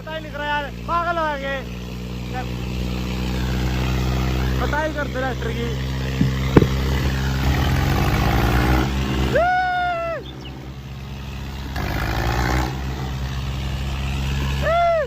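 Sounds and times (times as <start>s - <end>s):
diesel tractor engines under load: 0.0s - 15.0s.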